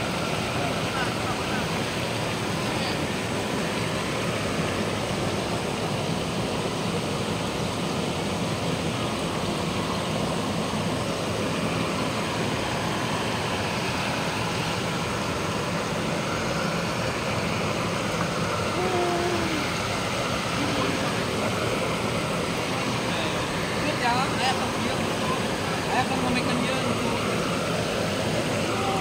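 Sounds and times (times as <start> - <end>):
geyser rushing steam and water: 0.0 - 29.0.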